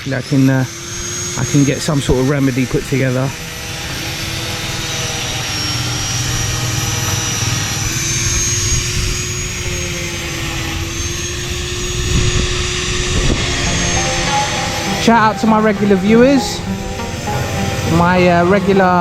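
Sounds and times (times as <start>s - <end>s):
motor drone with wavering whine: 0.0s - 19.0s.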